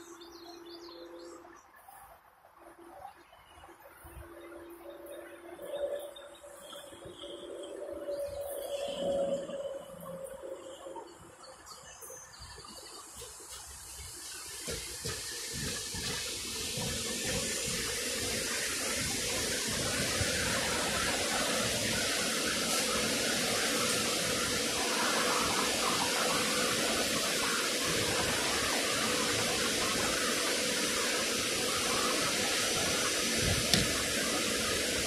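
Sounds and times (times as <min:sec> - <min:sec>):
train wheels rushing on rails: 0:05.8 - 0:35.0.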